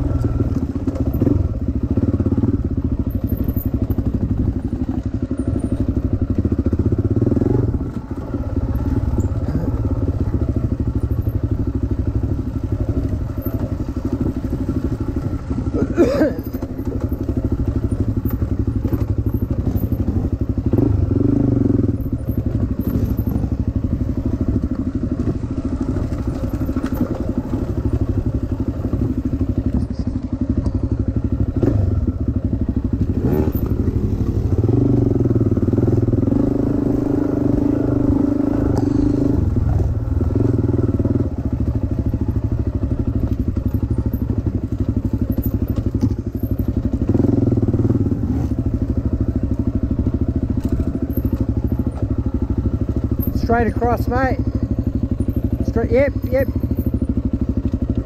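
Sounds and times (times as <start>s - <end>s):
dirt bike engine revving: 0.0s - 57.8s.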